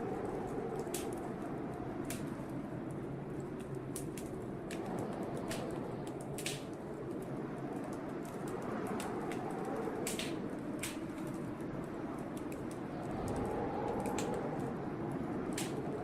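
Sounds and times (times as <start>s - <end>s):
blizzard wind rushing: 0.0s - 16.0s
wood fire crackling: 0.0s - 16.0s.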